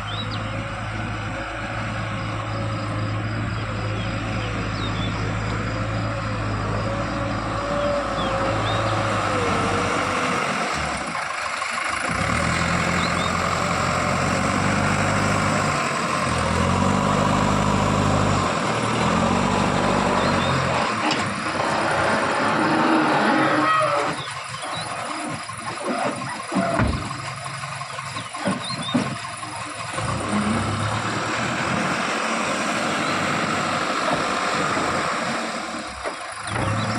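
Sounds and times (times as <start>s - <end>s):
diesel engine revving under load: 0.0s - 36.9s.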